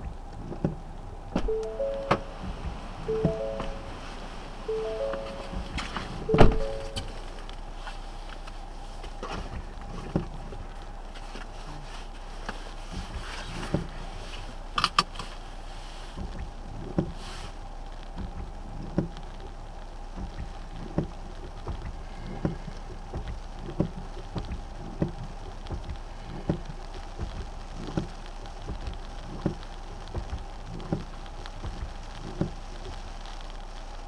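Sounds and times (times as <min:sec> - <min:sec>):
rain tapping on car body: 0:00.0 - 0:34.0.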